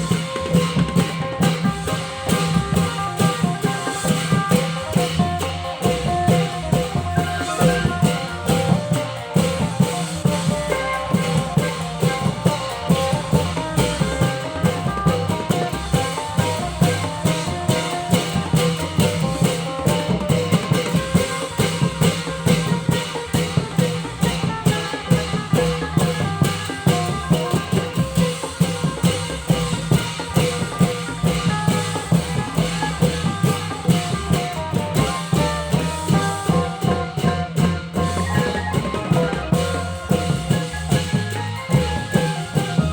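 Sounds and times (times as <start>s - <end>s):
drum ensemble playing fast rhythm: 0.0s - 42.9s.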